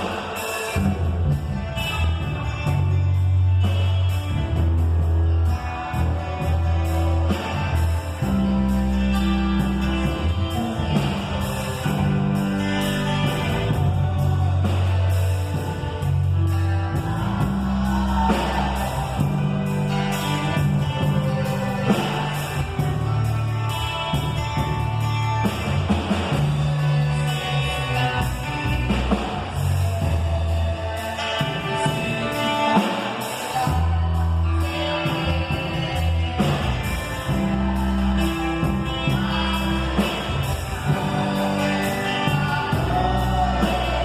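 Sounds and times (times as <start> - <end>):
steady drum beat: 0.0 - 34.4, 35.1 - 44.0
bass line: 0.0 - 44.0
electric guitar: 0.0 - 44.0.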